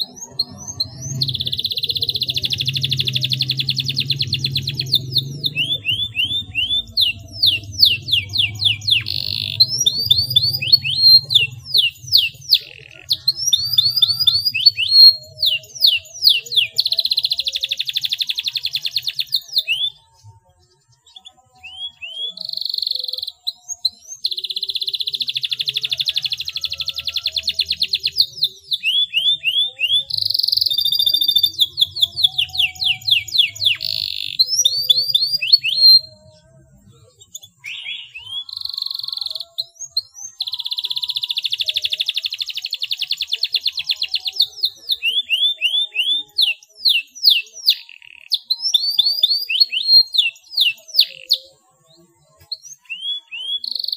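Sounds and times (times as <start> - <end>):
canary singing with trills: 0.0 - 53.9.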